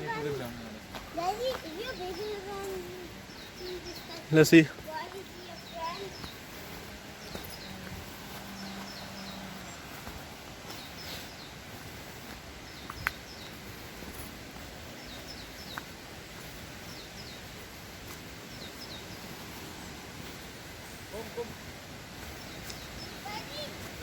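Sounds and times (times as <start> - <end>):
outdoor hiss: 0.0 - 24.0
small bird singing: 0.0 - 24.0.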